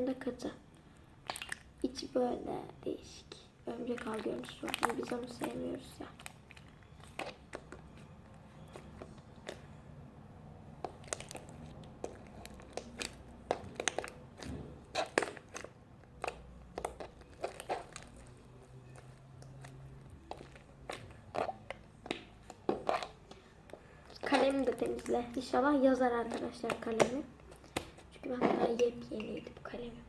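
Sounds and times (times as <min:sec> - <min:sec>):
slime kneaded with wet clicks: 0:01.2 - 0:02.0, 0:03.7 - 0:09.8, 0:10.8 - 0:28.0, 0:28.7 - 0:29.8.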